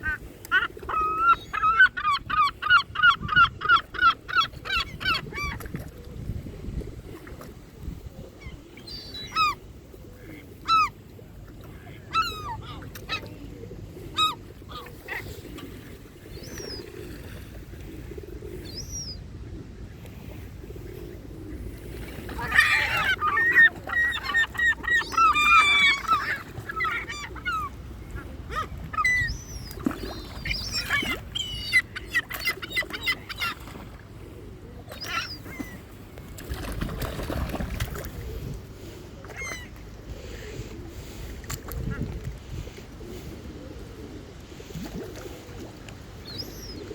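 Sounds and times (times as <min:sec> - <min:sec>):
waterbirds honking and quacking: 0:00.0 - 0:05.9, 0:08.4 - 0:19.2, 0:20.3 - 0:46.9.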